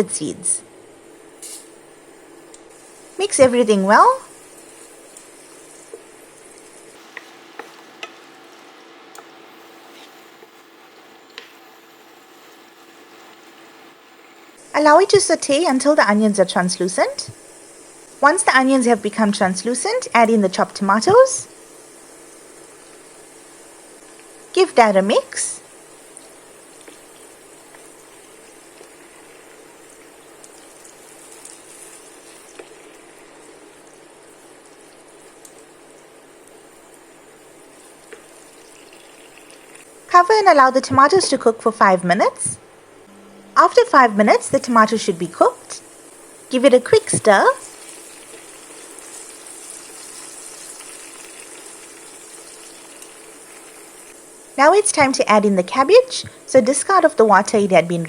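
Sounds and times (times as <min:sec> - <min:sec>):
vegetables sizzling in oil: 0:00.2 - 0:58.0.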